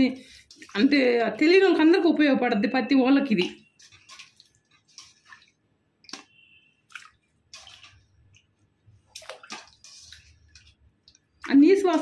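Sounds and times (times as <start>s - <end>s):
faint splashes and drips: 0.0s - 12.0s
water swishing in bowl: 0.0s - 12.0s.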